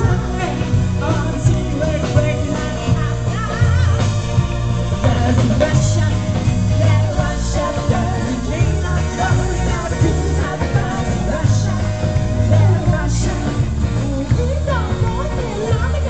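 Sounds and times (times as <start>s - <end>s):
live band playing: 0.0s - 16.0s
woman singing lead: 0.0s - 16.0s.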